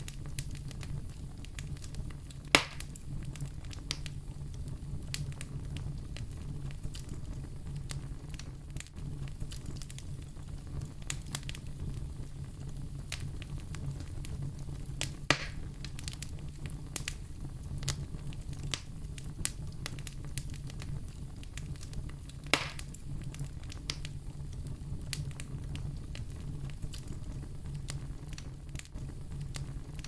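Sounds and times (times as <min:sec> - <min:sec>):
loud fire snaps: 0:00.0 - 0:30.0
wood fire crackling: 0:00.0 - 0:30.0.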